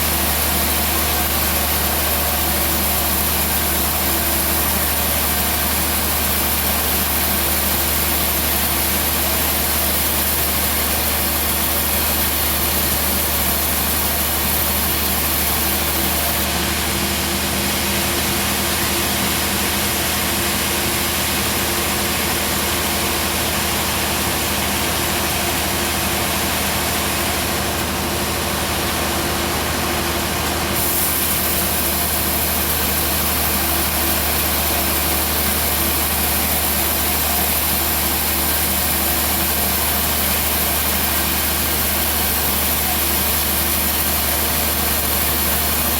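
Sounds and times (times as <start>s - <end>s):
band sawmill running: 0.0s - 45.9s.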